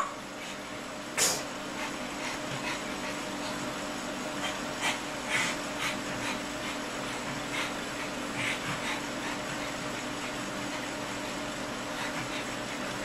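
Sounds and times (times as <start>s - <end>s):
dog making breathy sounds: 1.5s - 13.0s.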